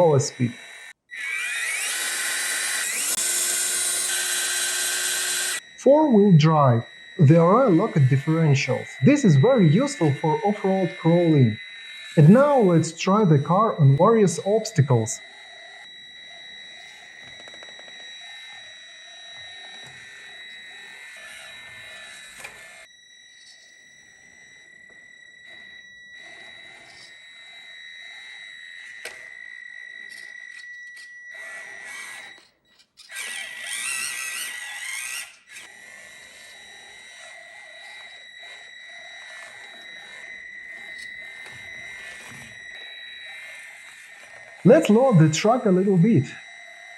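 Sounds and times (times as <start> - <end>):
toy car motor whine: 0.0 - 46.9.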